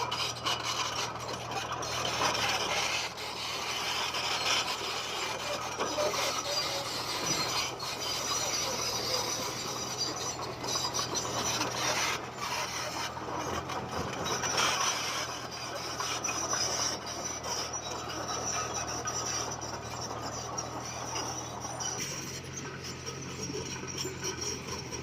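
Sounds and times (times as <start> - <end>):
bulldozer diesel engine running: 0.0 - 25.0
tracks grinding and stone pushed: 0.0 - 25.0.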